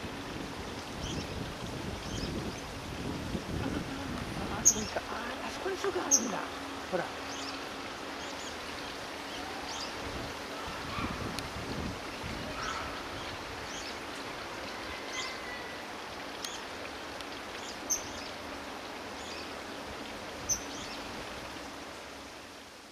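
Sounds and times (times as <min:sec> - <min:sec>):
outdoor background hiss: 0:00.0 - 0:22.9.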